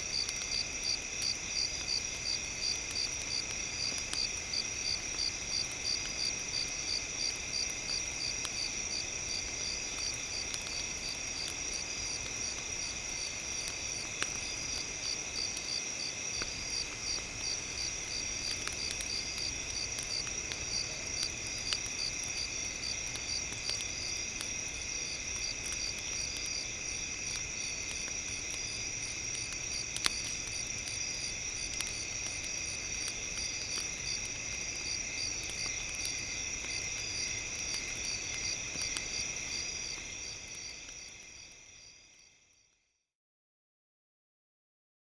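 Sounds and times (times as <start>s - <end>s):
campfire crackles: 0.0s - 42.5s
crickets chirring: 0.0s - 42.5s.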